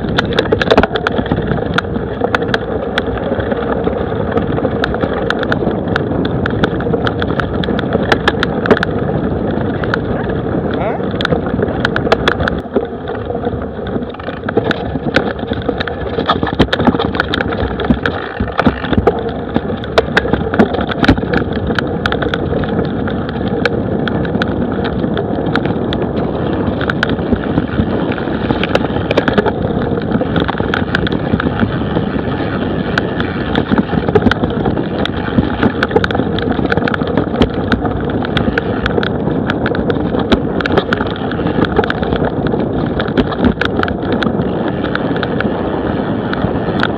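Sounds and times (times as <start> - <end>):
bike rattling over bumps: 0.0 - 46.9
tyre rumble on dirt: 0.0 - 46.9
wind on microphone: 0.0 - 46.9.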